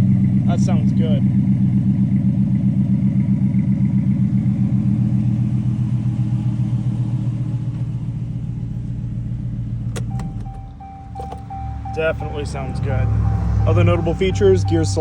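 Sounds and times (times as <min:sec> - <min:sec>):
pickup truck exhaust idling: 0:00.0 - 0:15.0.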